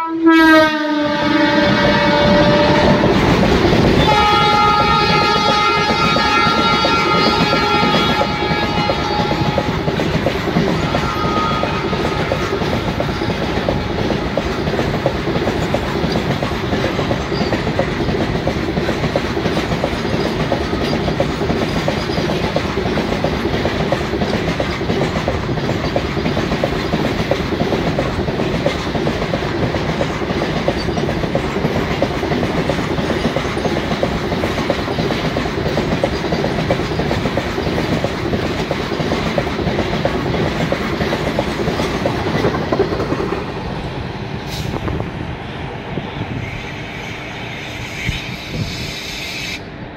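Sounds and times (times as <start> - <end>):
freight train rumble: 0.0 - 49.9
wheels clattering on rails: 1.8 - 43.7.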